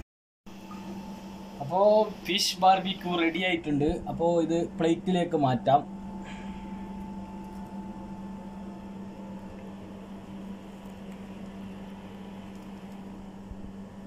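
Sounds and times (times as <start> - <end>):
low machine hum: 0.5 - 14.0.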